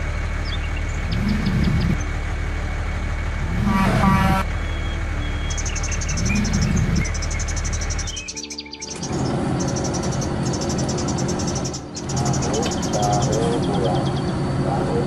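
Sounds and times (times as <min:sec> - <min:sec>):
steady low hum: 0:00.0 - 0:08.4, 0:09.0 - 0:15.0.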